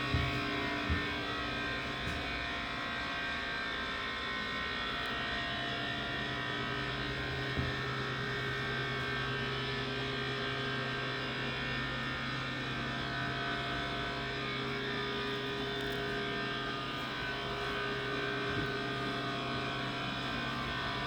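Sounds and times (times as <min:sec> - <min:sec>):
refrigeration unit humming: 0:00.0 - 0:21.0.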